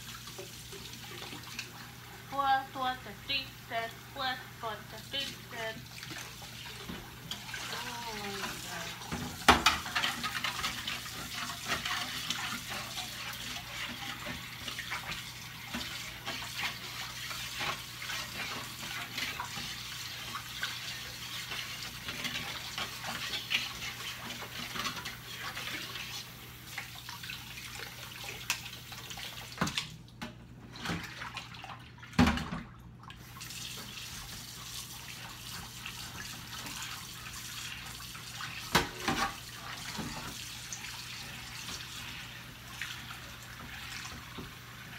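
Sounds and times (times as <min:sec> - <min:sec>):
tap water running into sink: 0:00.0 - 0:02.3, 0:05.0 - 0:44.9.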